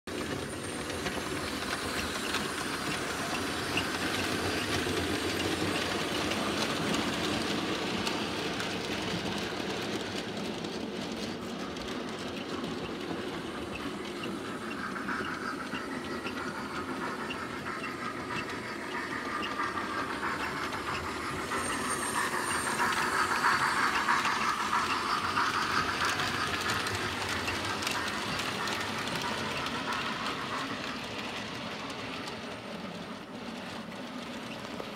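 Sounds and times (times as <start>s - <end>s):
model train wheels rattling on track: 0.1s - 34.9s.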